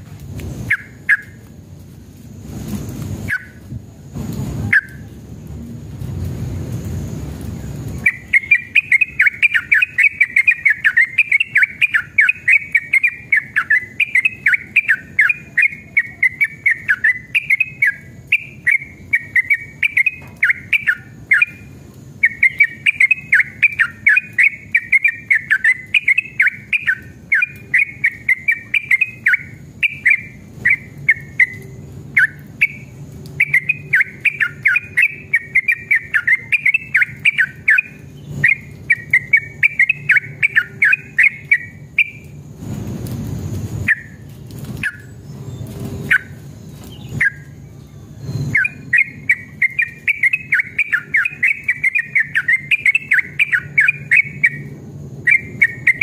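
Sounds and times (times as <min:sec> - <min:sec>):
bird chattering song: 0:00.6 - 0:01.4, 0:03.2 - 0:03.7, 0:08.0 - 0:42.4, 0:43.8 - 0:56.0.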